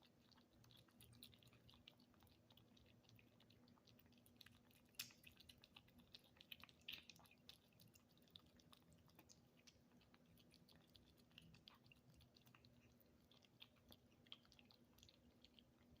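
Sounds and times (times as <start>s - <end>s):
kittens chewing: 0.0s - 16.0s.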